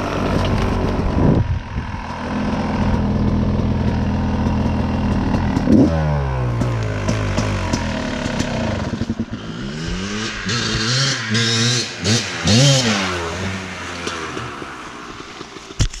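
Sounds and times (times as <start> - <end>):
dirt bike engine revving: 0.0 - 15.6.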